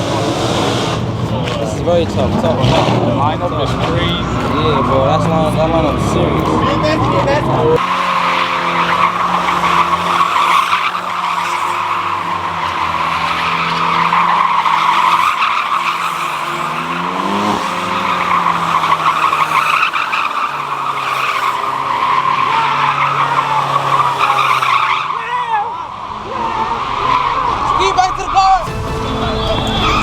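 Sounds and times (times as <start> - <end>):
car engine revving: 0.0 - 30.0
car tyres squealing: 0.0 - 30.0.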